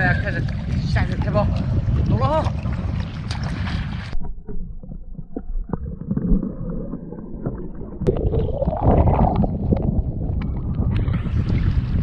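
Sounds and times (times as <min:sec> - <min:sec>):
muffled water sloshing and gurgling: 0:00.0 - 0:12.0
water splashing: 0:00.0 - 0:12.0.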